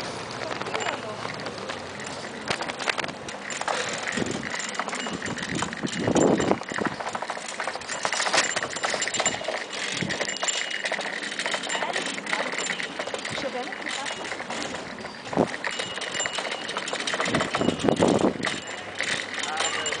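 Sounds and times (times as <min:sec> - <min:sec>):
bicycle rattling over bricks: 0:00.0 - 0:20.0.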